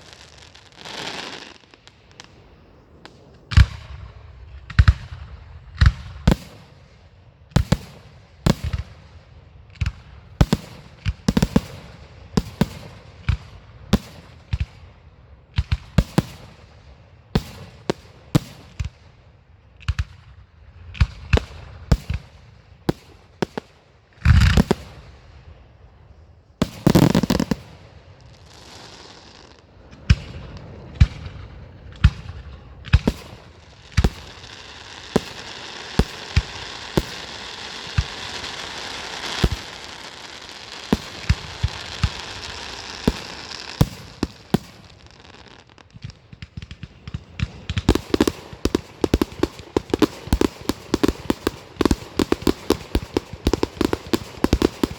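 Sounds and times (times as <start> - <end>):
fireworks bangs: 0.0 - 14.7, 20.9 - 25.2, 26.6 - 54.9
fireworks crackling: 0.0 - 14.8, 21.0 - 25.3, 26.6 - 54.9
loud fireworks booms: 0.0 - 14.9, 15.5 - 19.1, 19.8 - 25.5, 26.6 - 54.9.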